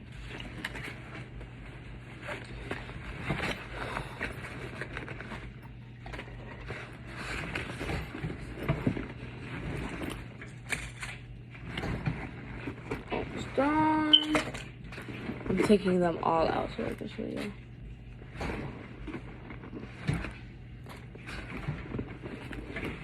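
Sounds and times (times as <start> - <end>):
toys rustling in backpack: 0.2 - 17.6, 18.2 - 23.0.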